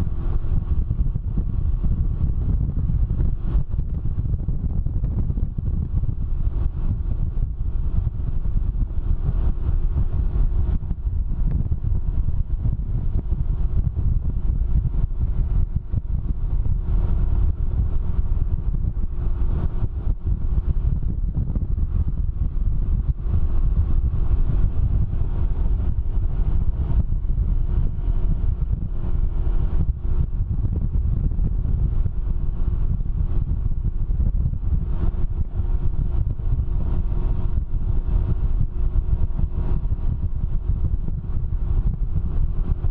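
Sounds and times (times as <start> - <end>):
engine droning: 0.0 - 42.9
wind buffeting microphone: 0.0 - 42.9.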